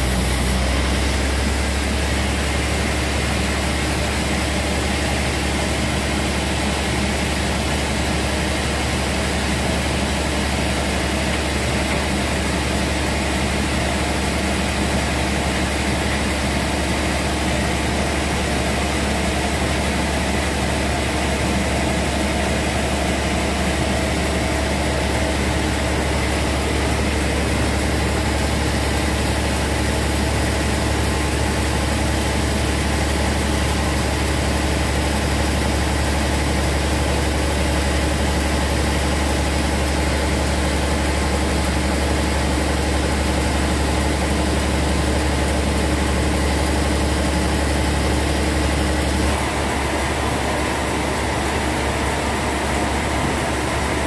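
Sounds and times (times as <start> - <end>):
band sawmill sawing log: 0.0 - 54.0.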